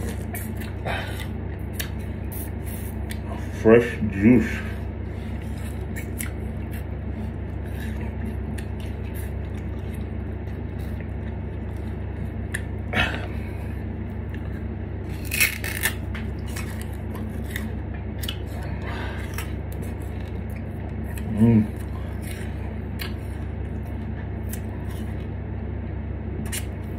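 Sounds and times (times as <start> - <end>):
sugarcane being chewed: 0.0 - 3.5, 4.6 - 25.4, 26.4 - 26.9
steady low hum: 0.0 - 26.9.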